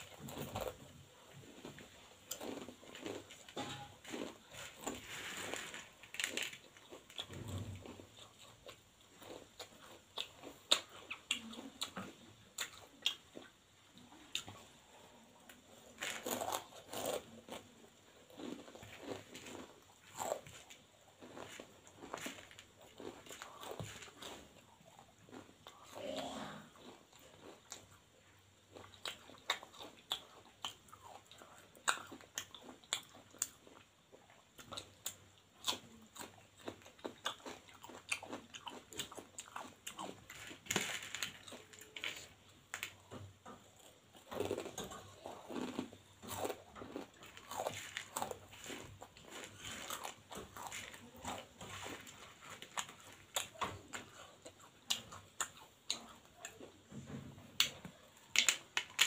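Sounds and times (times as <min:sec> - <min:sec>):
crunchy chewing of snack: 0:00.0 - 0:59.0.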